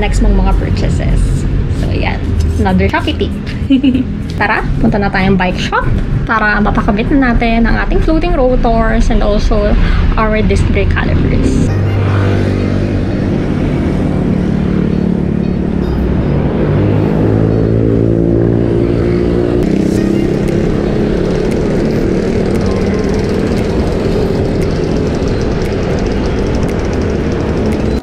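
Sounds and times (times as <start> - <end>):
car engines: 0.0 - 28.0
motorcycle engines: 0.0 - 28.0
traffic rumble: 0.0 - 28.0.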